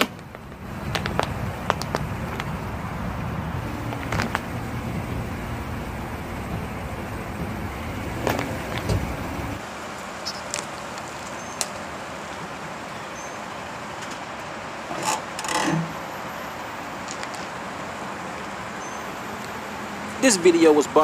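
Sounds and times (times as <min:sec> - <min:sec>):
outdoor hiss: 0:00.0 - 0:21.0
truck engine rumble: 0:00.0 - 0:21.0.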